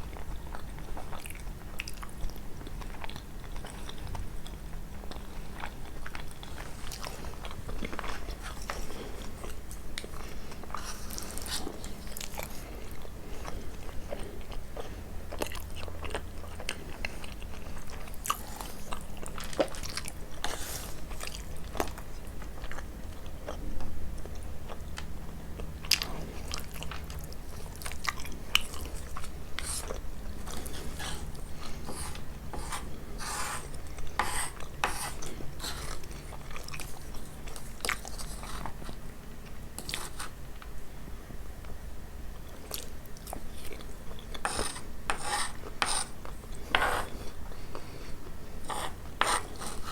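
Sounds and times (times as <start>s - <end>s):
crunchy pastry chewing: 0.0s - 40.8s.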